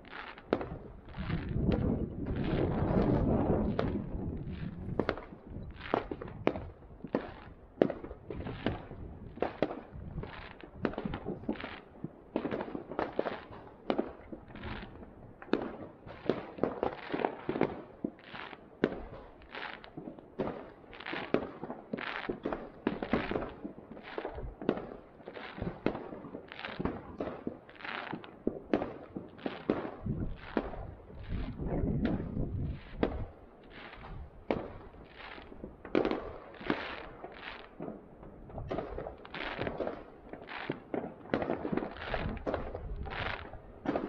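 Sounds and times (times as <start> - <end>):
distant fireworks bangs: 0.0 - 44.0.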